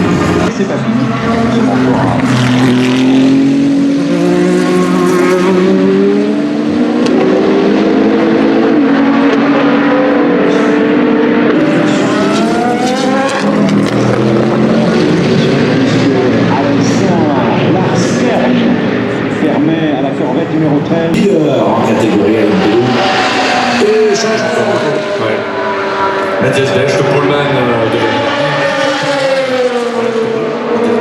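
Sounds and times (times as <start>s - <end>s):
race cars passing at speed: 0.0s - 31.0s.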